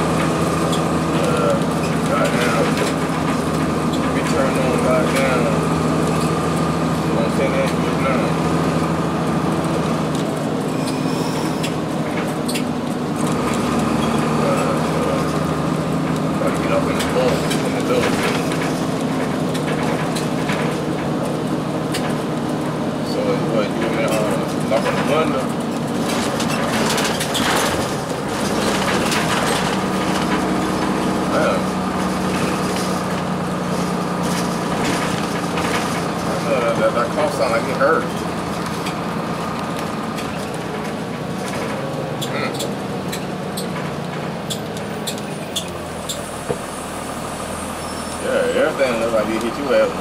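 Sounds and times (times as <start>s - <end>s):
diesel bus engine running: 0.0s - 50.0s
sharp clicks and rattles: 0.1s - 10.8s, 11.6s - 46.2s.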